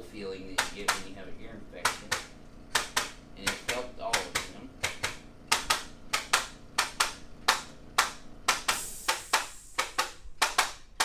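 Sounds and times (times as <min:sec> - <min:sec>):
sharp joint clicks: 0:01.8 - 0:11.0.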